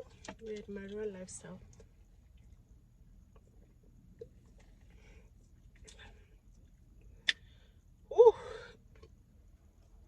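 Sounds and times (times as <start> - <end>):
faint low rumble: 0.0 - 10.0.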